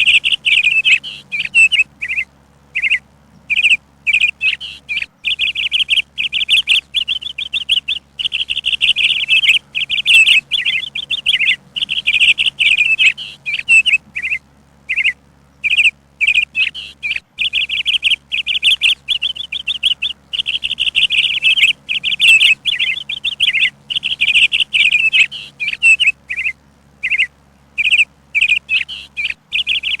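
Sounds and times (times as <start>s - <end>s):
bird twittering: 0.0s - 30.0s.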